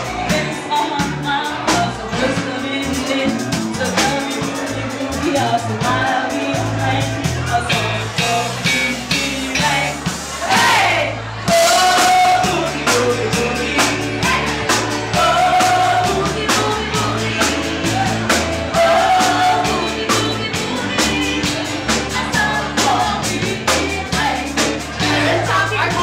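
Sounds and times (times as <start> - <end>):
woman singing: 0.0 - 10.0, 10.6 - 26.0
drum beat: 0.0 - 26.0
guitar: 0.0 - 26.0
walking bass line: 0.0 - 26.0.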